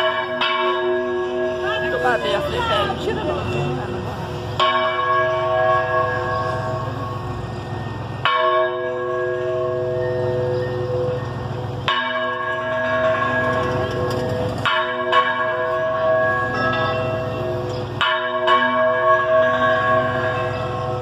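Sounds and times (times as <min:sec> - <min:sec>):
church bell tolling: 0:00.0 - 0:21.0.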